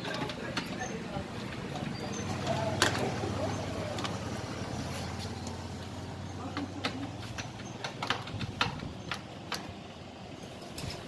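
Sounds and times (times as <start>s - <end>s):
sharp metallic clicks and knocks: 0.0s - 4.3s, 5.1s - 11.0s.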